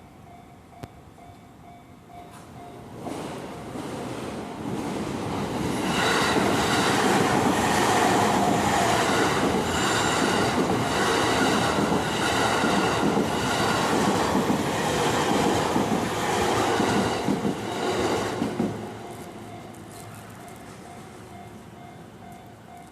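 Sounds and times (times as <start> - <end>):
electric train passing: 0.0 - 22.9.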